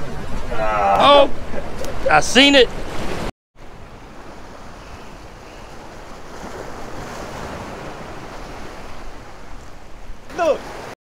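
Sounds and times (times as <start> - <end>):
wind on microphone: 0.0 - 10.9
surf washing against rocks: 0.0 - 11.0.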